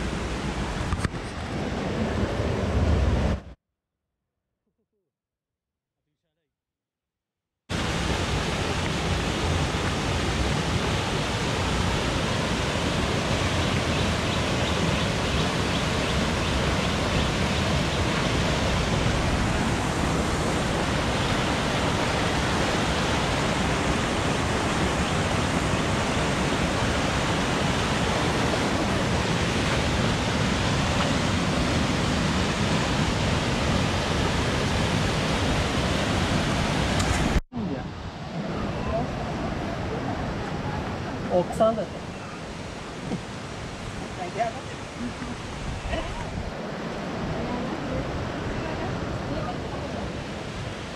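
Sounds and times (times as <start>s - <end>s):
water rushing over boulders: 7.7s - 50.9s.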